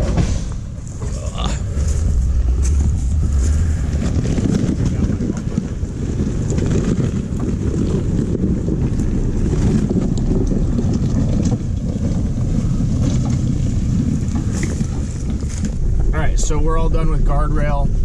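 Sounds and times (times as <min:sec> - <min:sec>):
engine and drivetrain rumble: 0:00.0 - 0:18.0
wind buffeting microphone: 0:00.0 - 0:18.0.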